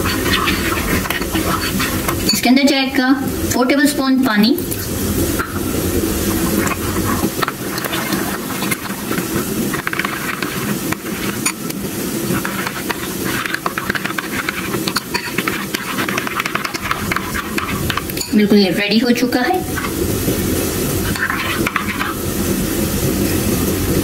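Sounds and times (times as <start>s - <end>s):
spatula stirring sauce in bowl: 0.0s - 2.8s, 5.4s - 22.3s.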